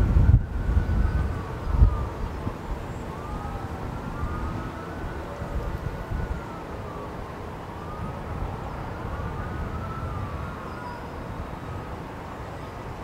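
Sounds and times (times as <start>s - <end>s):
siren wailing: 0.0s - 11.9s.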